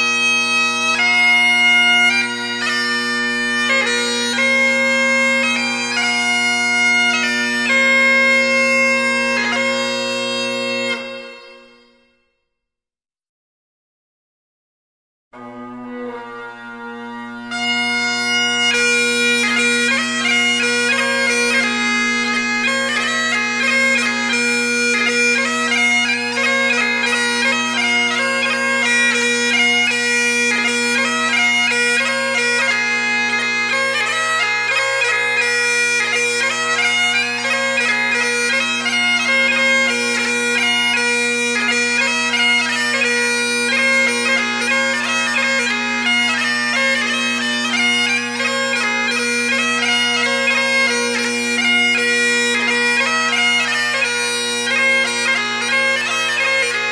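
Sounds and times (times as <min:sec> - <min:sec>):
bagpipes playing a tune: 0:00.0 - 0:12.2, 0:15.4 - 0:56.9.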